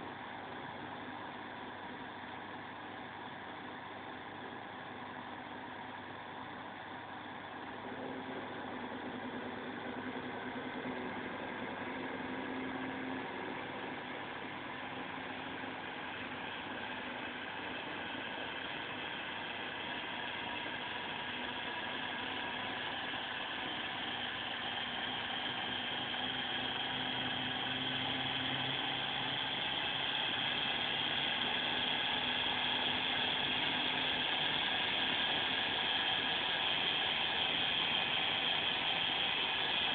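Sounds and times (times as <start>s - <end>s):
aquarium pump whirring: 0.0s - 39.9s.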